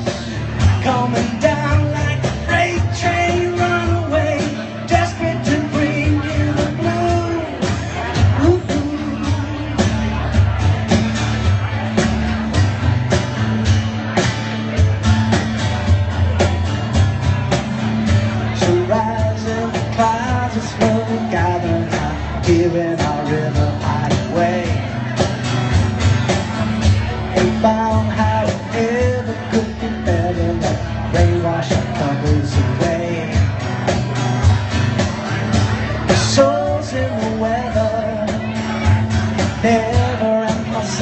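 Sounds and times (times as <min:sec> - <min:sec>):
guitar: 0:00.0 - 0:41.0
singer's voice: 0:00.0 - 0:41.0
steady drum beat: 0:00.0 - 0:41.0.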